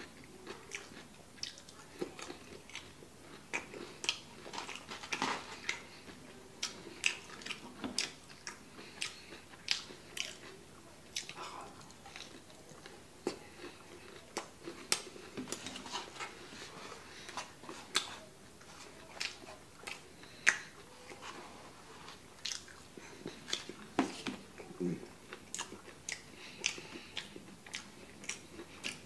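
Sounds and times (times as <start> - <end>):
person chewing crispy food: 0.0 - 29.0.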